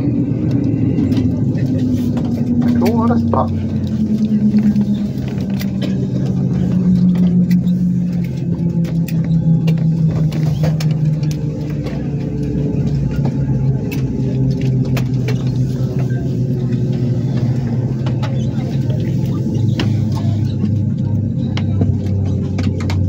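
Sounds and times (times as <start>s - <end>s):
airliner cabin engine hum: 0.0s - 23.0s.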